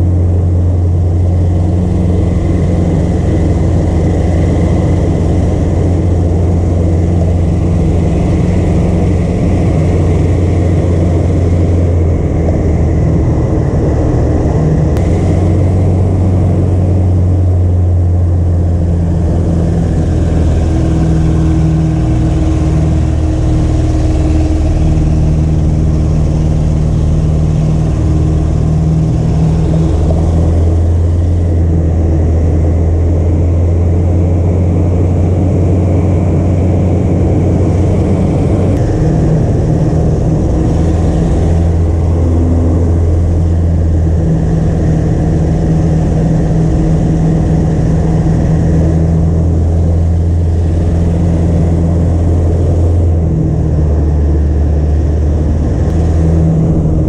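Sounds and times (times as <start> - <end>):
airflow noise: 0.0 - 57.0
propeller aircraft engine drone: 0.0 - 57.0.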